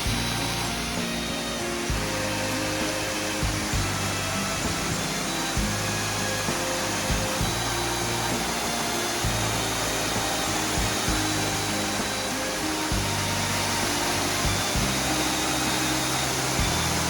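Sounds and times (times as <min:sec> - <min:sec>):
soft acoustic music: 0:00.0 - 0:17.0
waterfall rushing: 0:00.0 - 0:17.0.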